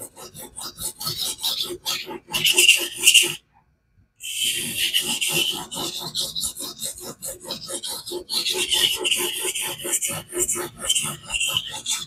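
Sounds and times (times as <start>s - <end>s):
knife rasping on whetstone: 0.0s - 3.4s, 4.2s - 12.0s.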